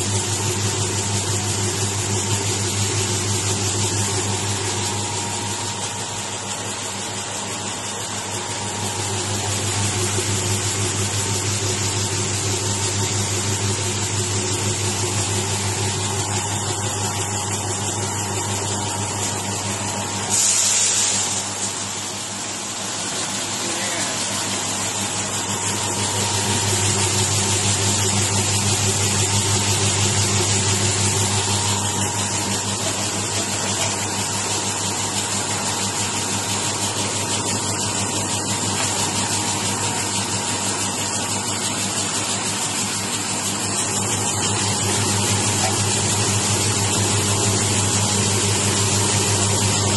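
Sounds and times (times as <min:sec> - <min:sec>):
mixer motor hum: 0:00.0 - 0:49.9.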